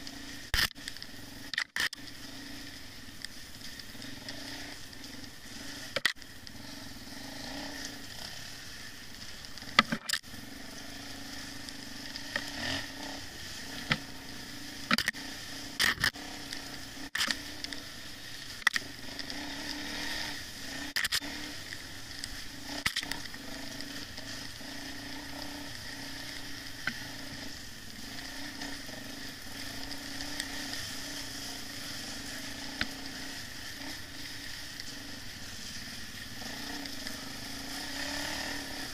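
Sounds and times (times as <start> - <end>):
dirt bike engine hum: 0.0 - 38.9.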